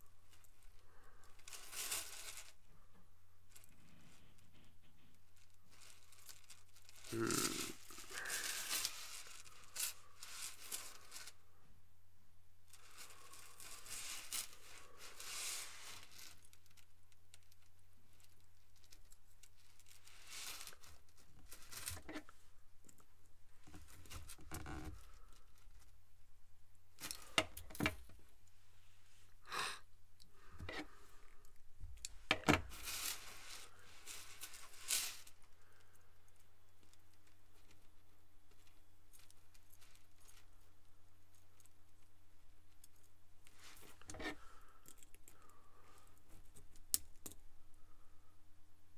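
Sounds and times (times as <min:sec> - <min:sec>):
rustles: 0:00.0 - 0:11.8, 0:12.6 - 0:48.9.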